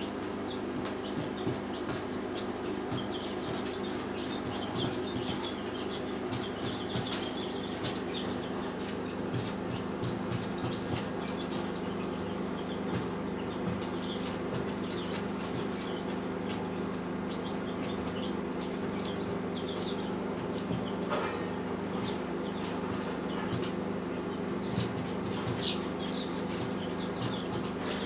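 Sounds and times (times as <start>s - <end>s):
poultry peeping and chirping: 0.0s - 28.0s
steady machine hum: 0.0s - 28.0s.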